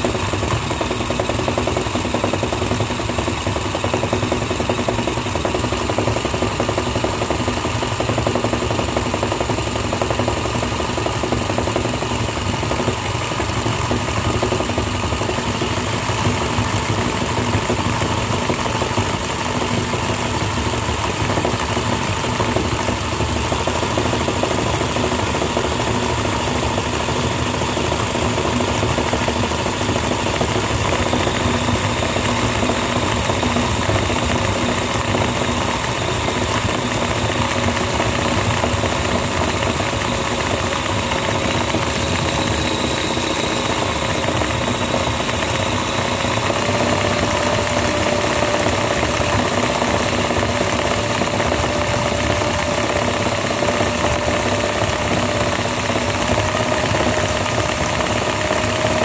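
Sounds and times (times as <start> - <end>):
toy gear motor whirring: 0.3 - 59.0.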